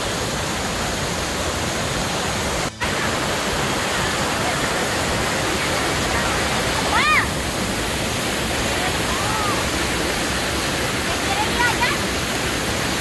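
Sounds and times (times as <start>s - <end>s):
river cascade pouring over boulders: 0.0s - 13.0s.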